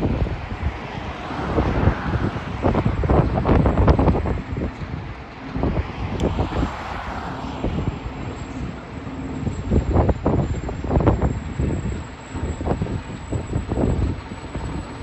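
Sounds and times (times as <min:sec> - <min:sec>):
fire engine passing: 0:00.0 - 0:15.0
wind buffeting microphone: 0:00.0 - 0:15.0.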